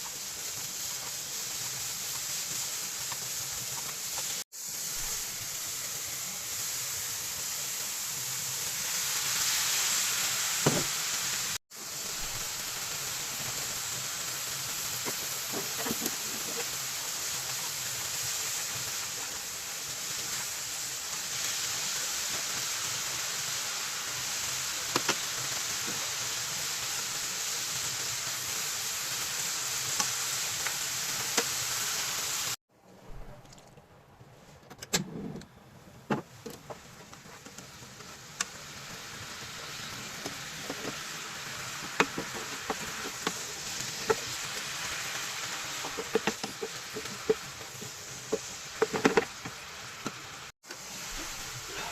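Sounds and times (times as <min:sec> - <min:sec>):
food sizzling in a pan: 0:00.0 - 0:32.6, 0:36.2 - 0:51.9.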